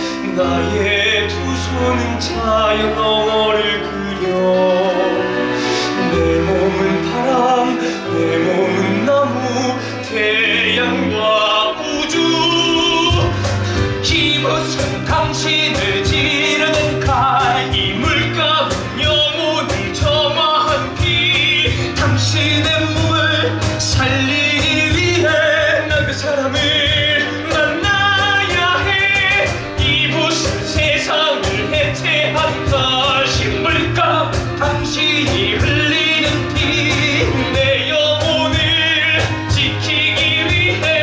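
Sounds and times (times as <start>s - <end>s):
instrumental accompaniment: 0.0s - 41.0s
men singing: 0.0s - 41.0s.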